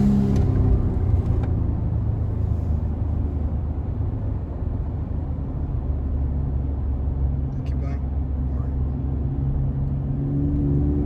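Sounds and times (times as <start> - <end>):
truck engine low rumble: 0.0 - 10.3.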